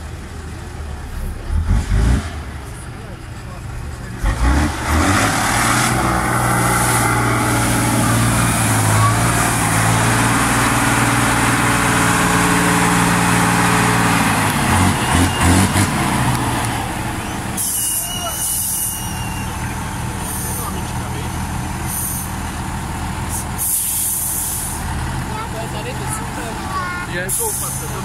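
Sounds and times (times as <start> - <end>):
truck diesel engine under load: 0.0 - 28.0.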